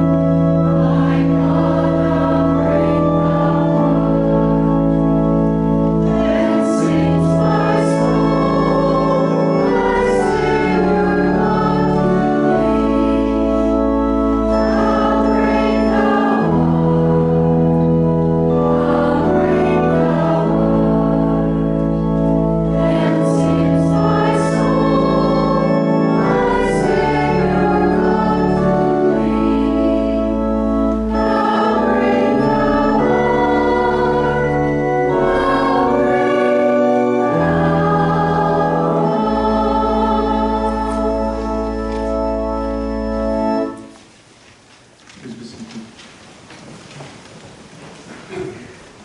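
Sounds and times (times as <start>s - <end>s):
voices singing a hymn: 0.0s - 43.9s
organ chords: 0.0s - 45.0s.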